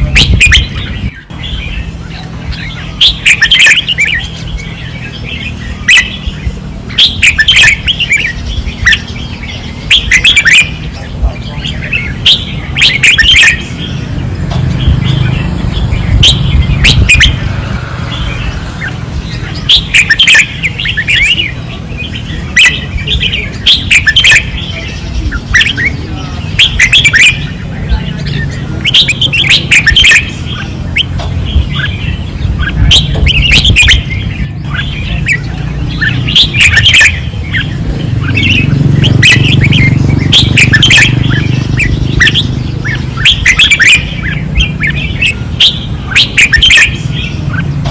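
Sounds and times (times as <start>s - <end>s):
steady low rumble: 0.0s - 26.6s, 30.4s - 43.2s
birds singing bright phrases: 0.0s - 47.9s.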